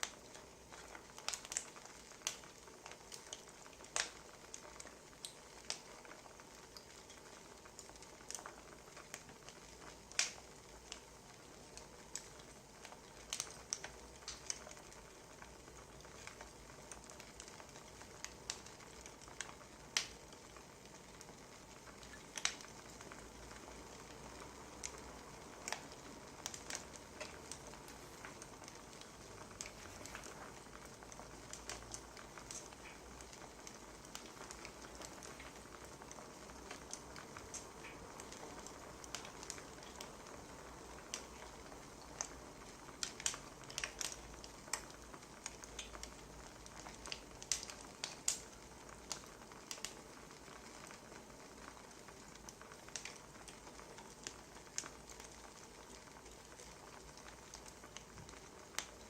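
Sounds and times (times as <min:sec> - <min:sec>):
faint steady hiss: 0:00.0 - 0:59.0
wood fire crackling: 0:00.0 - 0:59.0.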